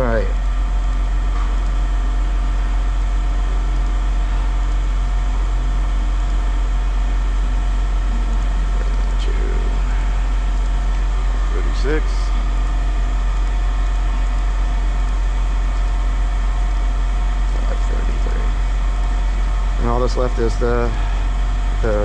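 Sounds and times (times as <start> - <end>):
mechanical hum with low rumble: 0.0 - 22.0.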